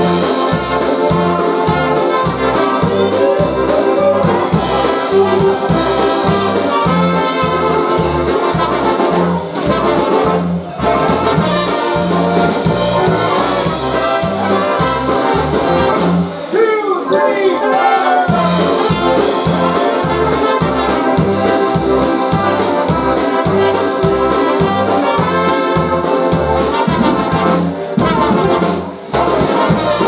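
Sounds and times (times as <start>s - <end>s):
steady bass beat: 0.0s - 16.4s, 18.3s - 30.0s
brass horns playing polka: 0.0s - 16.5s, 17.1s - 30.0s.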